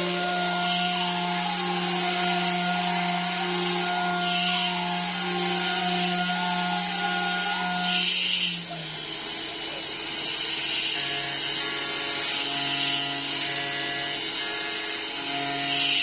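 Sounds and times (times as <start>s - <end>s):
milling machine whining: 0.0s - 16.0s.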